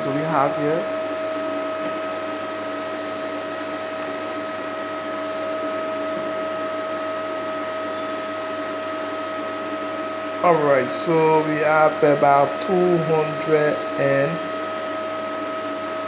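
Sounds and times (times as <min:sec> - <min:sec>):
inverter hissing and humming: 0:00.0 - 0:16.0.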